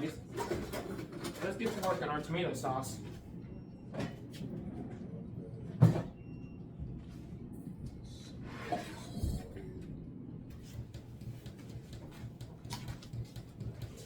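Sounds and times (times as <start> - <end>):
low steady hum: 1.7 - 14.0.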